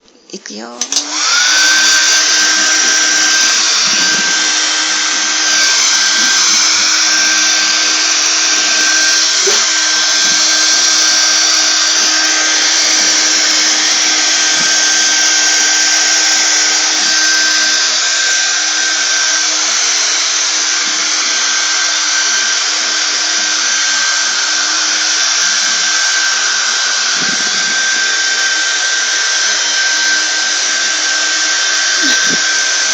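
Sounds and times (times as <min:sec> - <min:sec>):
hair dryer running: 0:00.6 - 0:32.9.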